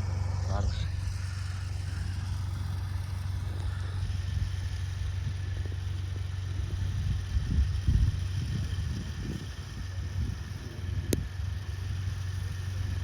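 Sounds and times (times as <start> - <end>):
pickup engine running at low revs: 0.0 - 13.0.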